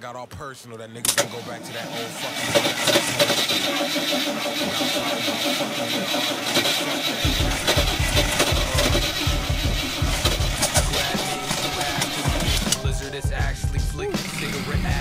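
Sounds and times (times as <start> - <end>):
car engine cranking: 1.0 - 15.0
engine running with low pulsing: 2.4 - 15.0.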